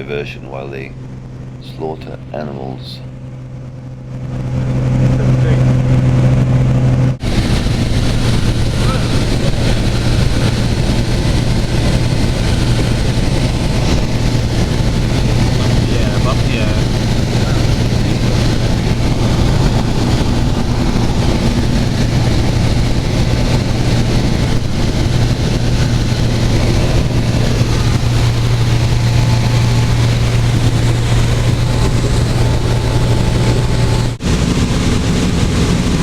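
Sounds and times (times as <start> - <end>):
light aircraft engine drone: 0.0 - 36.0.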